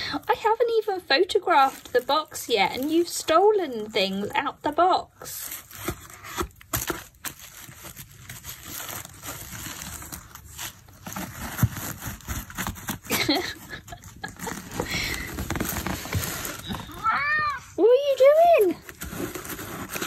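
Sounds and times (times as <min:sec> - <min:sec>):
cat rummaging in a box: 0:00.0 - 0:20.0
tissue paper rustling: 0:00.2 - 0:20.0.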